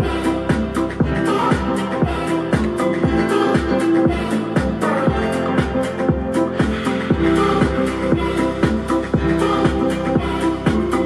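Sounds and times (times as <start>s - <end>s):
deep kick drum: 0.0s - 11.0s
music through a soundbar: 0.0s - 11.0s.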